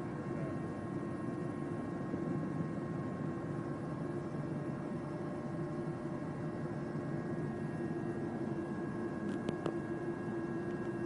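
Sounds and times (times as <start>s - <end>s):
helicopter engine and rotor rumble: 0.0s - 11.0s
steady whining tones: 0.0s - 11.0s.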